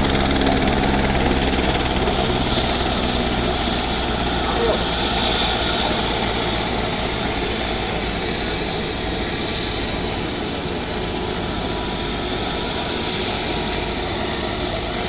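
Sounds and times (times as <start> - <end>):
aircraft engine hiss and rumble: 0.0 - 15.0.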